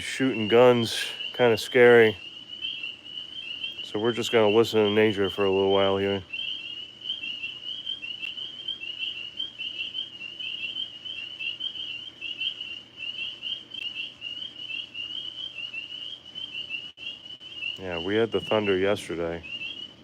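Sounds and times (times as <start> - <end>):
tree frogs chorus: 0.0 - 20.0.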